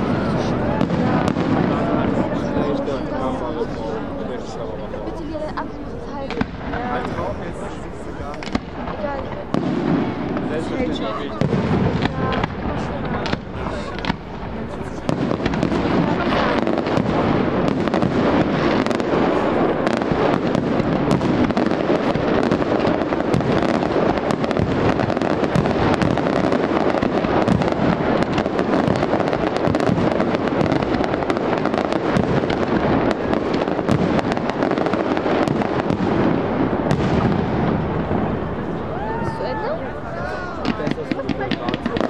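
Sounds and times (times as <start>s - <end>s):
fireworks bursting and crackling: 0.0s - 42.0s.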